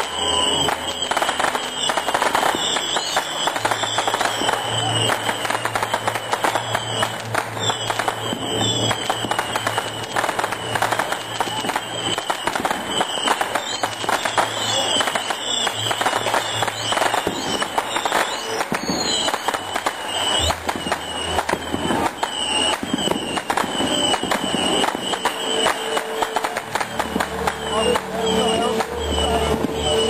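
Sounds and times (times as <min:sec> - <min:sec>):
fireworks crackling and popping: 0:00.0 - 0:30.0
fireworks whistling: 0:00.0 - 0:30.0.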